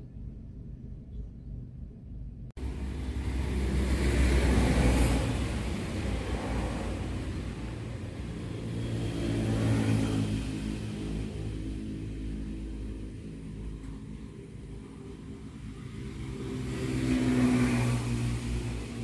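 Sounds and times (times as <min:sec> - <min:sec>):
motor vehicle passing: 0:02.6 - 0:19.0.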